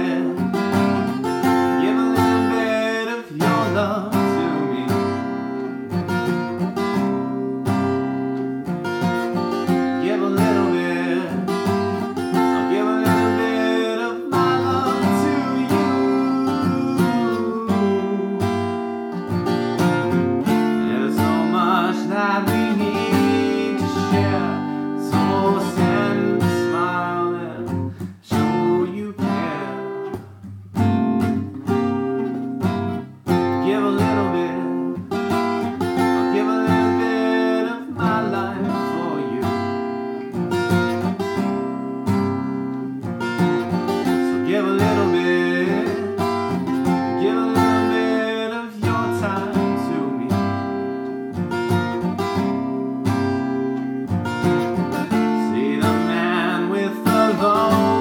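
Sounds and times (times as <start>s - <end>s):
man singing: 0.0s - 30.2s, 30.8s - 58.0s
strummed acoustic guitar: 0.0s - 58.0s.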